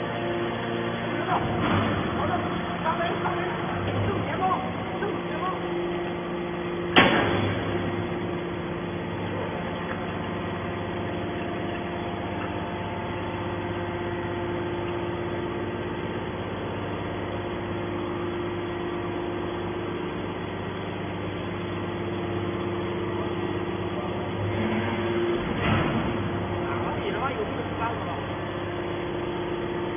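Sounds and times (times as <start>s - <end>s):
hydraulic baler humming: 0.0s - 29.9s.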